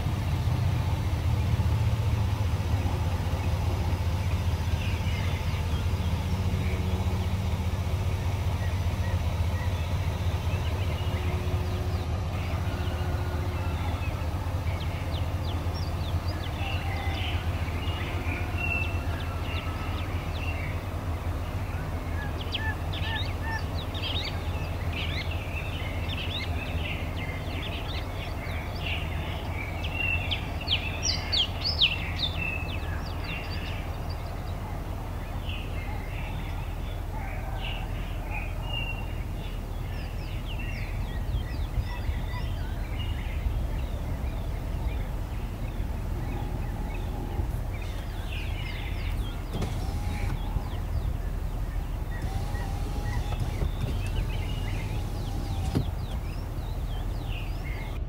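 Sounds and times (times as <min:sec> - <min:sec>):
low engine hum: 0:00.0 - 0:58.0
small birds chirping: 0:00.0 - 0:58.0.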